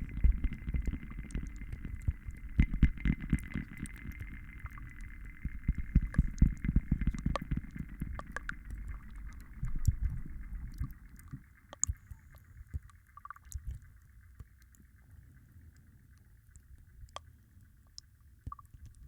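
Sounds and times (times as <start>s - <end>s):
small clicks: 0.2s - 19.0s.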